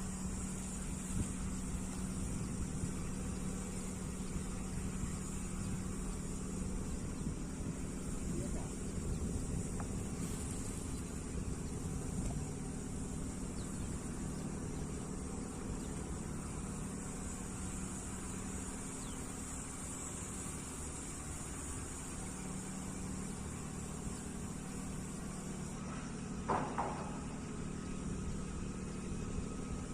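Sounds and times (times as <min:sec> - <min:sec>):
engine drone: 0:00.0 - 0:29.9
insects chirring: 0:00.0 - 0:29.9.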